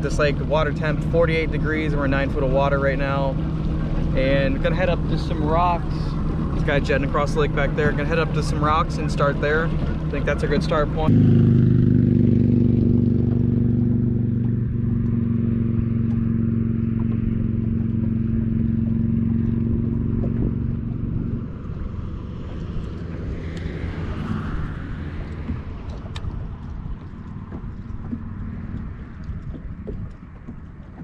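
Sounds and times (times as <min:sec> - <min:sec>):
outboard motor running: 0:00.0 - 0:31.0
rushing water: 0:00.0 - 0:31.0
wind: 0:00.0 - 0:31.0.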